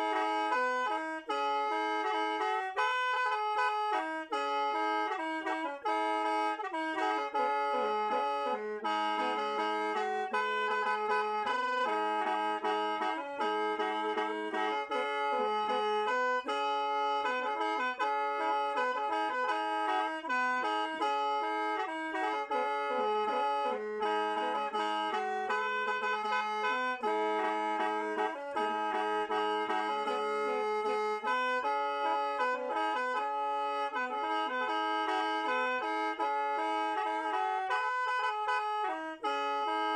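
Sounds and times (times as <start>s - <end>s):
bamboo mouth organ playing: 4.3s - 39.9s.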